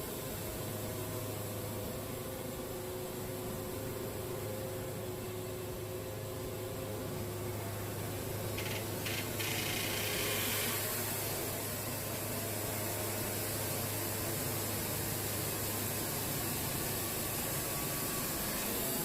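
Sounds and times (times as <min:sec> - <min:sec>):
band sawmill engine humming: 0:00.0 - 0:19.0.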